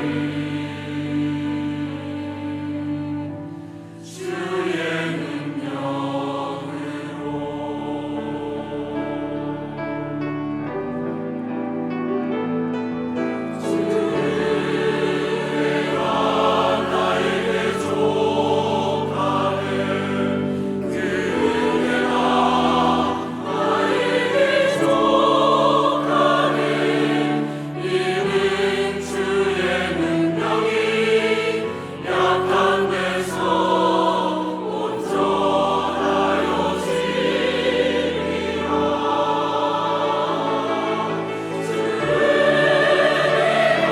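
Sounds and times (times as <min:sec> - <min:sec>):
choir singing: 0:00.0 - 0:43.9.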